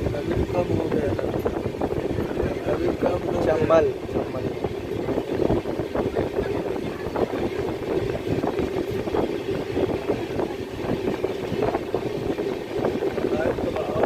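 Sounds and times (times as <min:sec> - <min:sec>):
train clatter and rattle: 0:00.0 - 0:14.0
train wheels rumbling on rail: 0:00.0 - 0:14.0.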